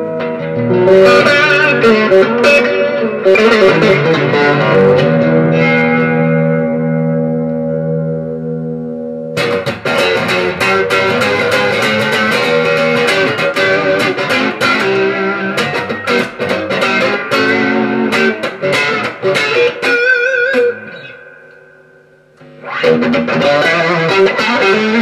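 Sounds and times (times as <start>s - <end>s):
electric guitar picked notes: 0.0s - 25.0s.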